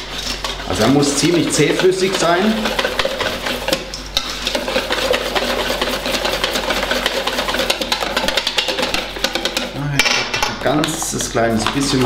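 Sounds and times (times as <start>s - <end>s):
whisk beating batter in metal bowl: 0.0s - 12.0s.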